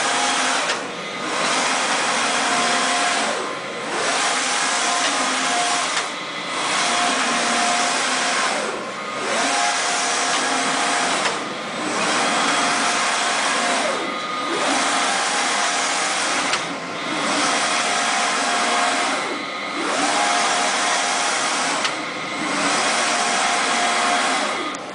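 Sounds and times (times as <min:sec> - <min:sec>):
printer carriage whirring: 0:00.0 - 0:24.9.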